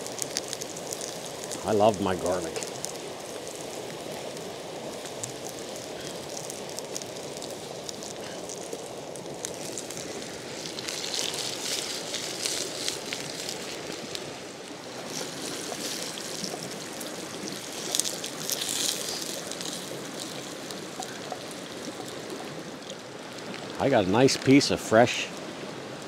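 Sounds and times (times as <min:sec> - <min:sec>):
food sizzling in oil: 0:00.0 - 0:23.8
creek rushing: 0:00.0 - 0:26.0.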